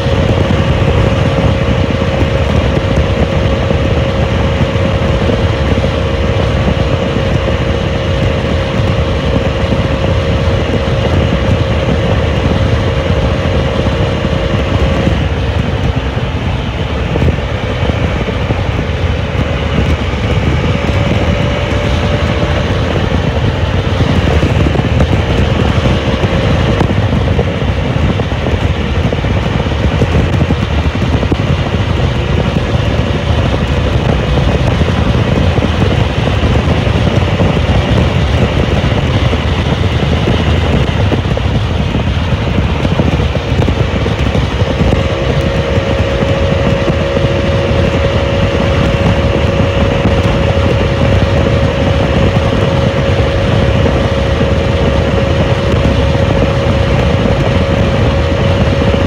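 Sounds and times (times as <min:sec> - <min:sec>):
motorcycle engine cruising: 0:00.0 - 0:59.0
wind rushing: 0:00.0 - 0:59.0.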